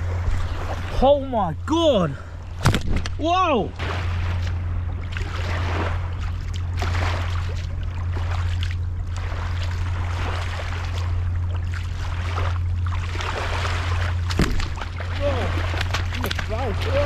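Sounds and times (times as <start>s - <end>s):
steady low hum: 0.0s - 17.0s
water sloshing and splashing: 0.0s - 17.0s.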